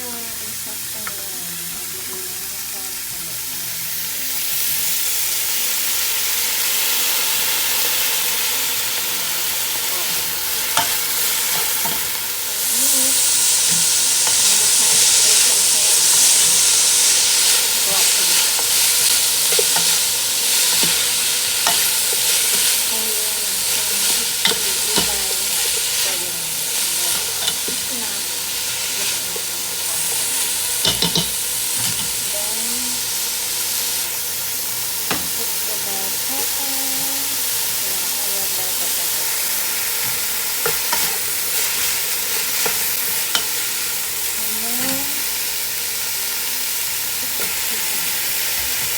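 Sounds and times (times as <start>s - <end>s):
food sizzling in hot oil: 0.0s - 48.9s.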